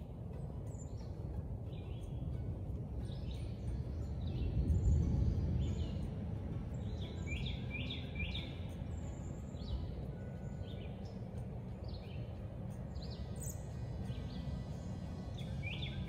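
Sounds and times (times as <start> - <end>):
low background rumble: 0.0 - 16.0
songbirds chirping: 0.0 - 16.0.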